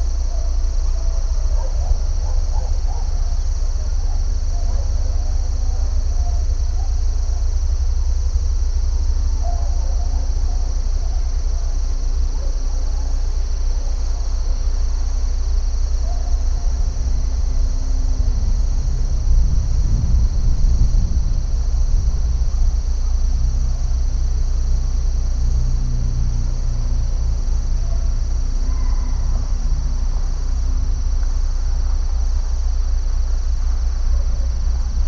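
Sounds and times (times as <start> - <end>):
constant low rumble: 0.0 - 35.0
crickets chirping: 0.0 - 35.0.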